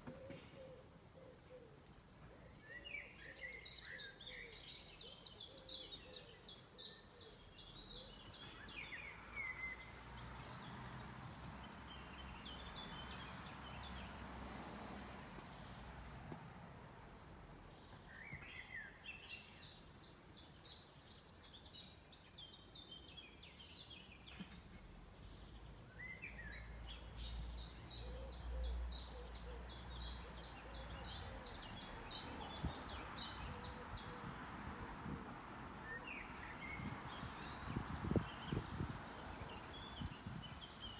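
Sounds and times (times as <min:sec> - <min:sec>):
songbird singing: 0:00.0 - 0:14.2, 0:17.1 - 0:40.9
wind in trees: 0:00.0 - 0:40.9.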